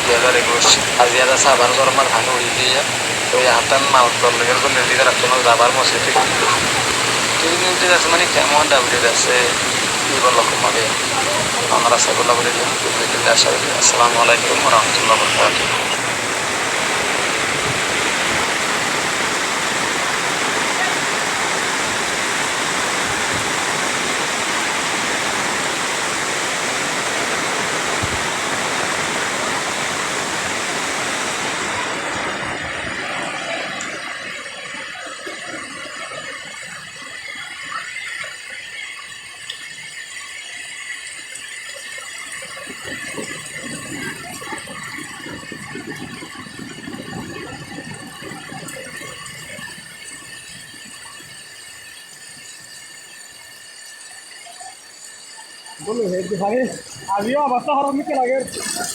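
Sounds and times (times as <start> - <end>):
heavy rain pouring: 0.0 - 58.9
rain rattling and pattering: 0.0 - 58.9.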